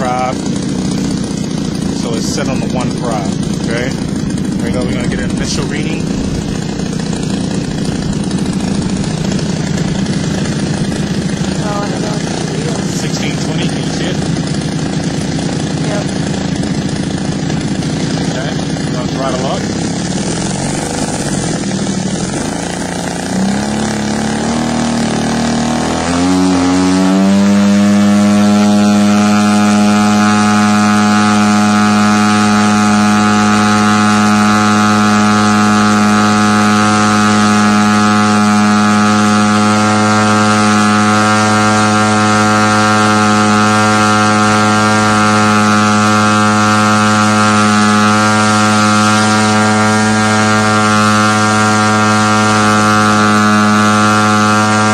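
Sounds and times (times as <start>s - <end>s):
model airplane engine running: 0.0s - 54.9s.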